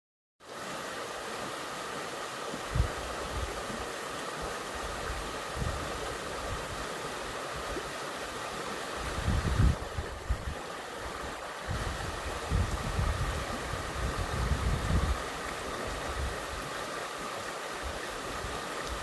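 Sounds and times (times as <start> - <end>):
water rushing: 0.4 - 19.0.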